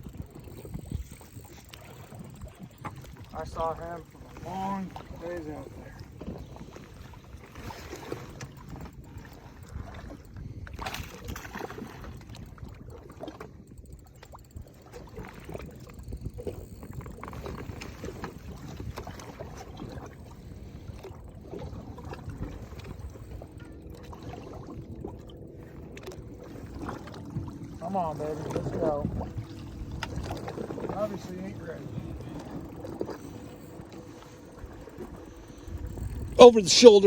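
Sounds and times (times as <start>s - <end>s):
water and wind rumble: 0.0s - 37.0s.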